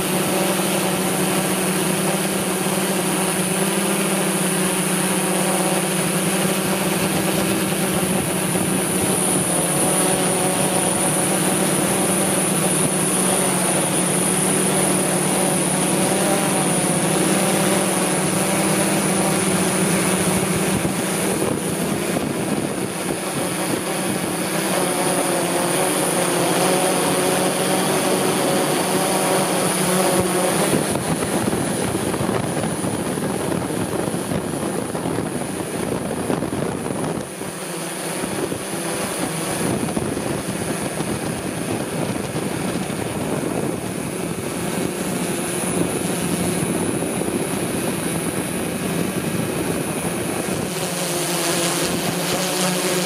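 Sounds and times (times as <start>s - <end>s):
drone motors humming: 0.0s - 53.0s.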